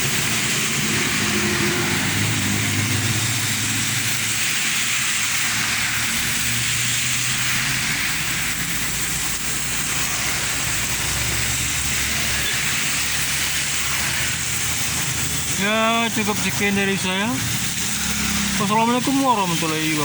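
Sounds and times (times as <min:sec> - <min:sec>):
heavy rain hiss: 0:00.0 - 0:20.0
traffic on wet road: 0:00.0 - 0:20.0.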